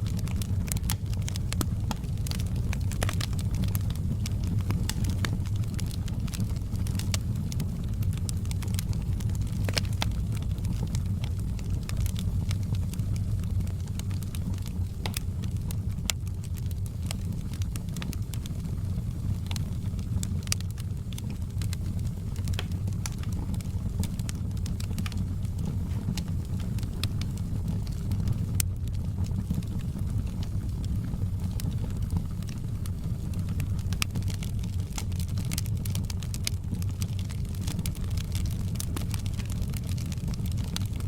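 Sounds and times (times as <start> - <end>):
burning wood popping and snapping: 0.0 - 41.0
low rumble of flames: 0.0 - 41.0.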